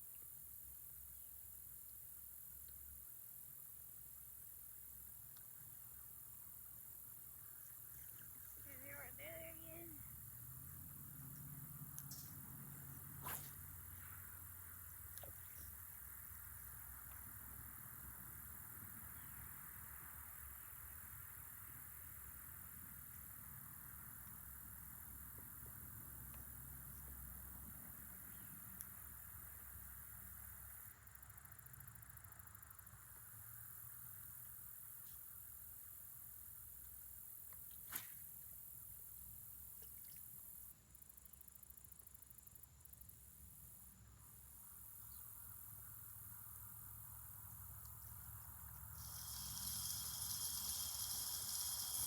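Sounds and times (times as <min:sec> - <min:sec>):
insects buzzing: 0:00.4 - 0:52.0.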